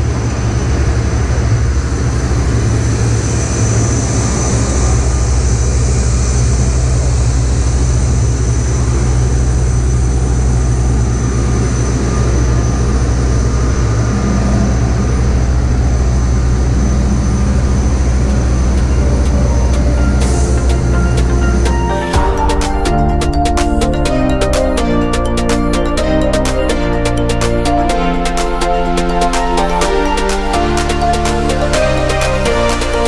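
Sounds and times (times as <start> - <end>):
bus engine idling drone: 0.0 - 33.0
thin high whine: 0.0 - 33.0.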